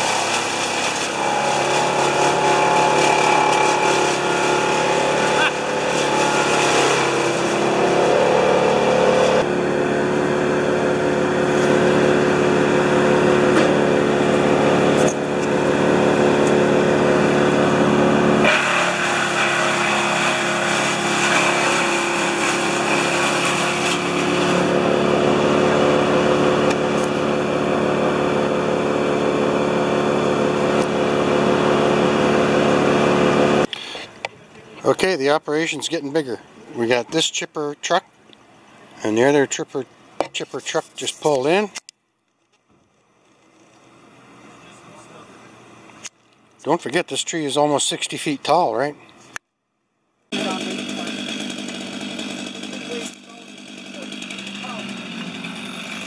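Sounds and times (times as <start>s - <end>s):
wood chipper engine running: 0.0s - 41.9s, 50.3s - 56.0s.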